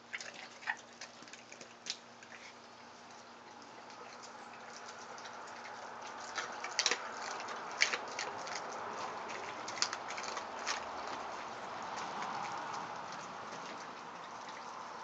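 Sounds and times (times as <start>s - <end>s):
bones cracking and crunching: 0.0s - 14.6s
dog chewing bones: 0.0s - 15.0s.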